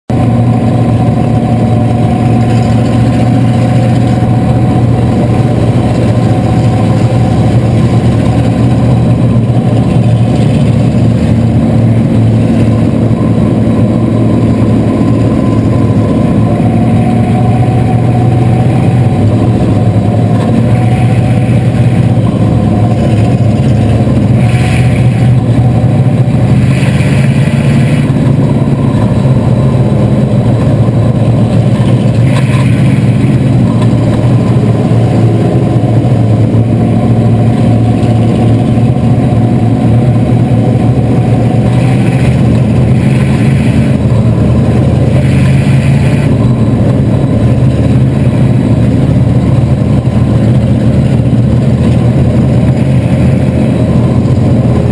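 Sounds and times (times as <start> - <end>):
race car engine running: 0.0 - 54.9
surrounding car engines: 0.0 - 54.9.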